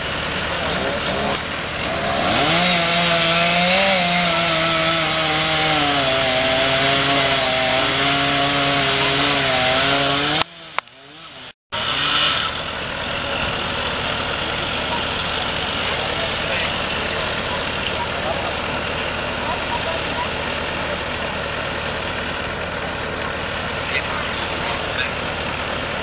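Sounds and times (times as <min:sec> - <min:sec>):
chainsaw cutting a tree: 0:00.0 - 0:26.0.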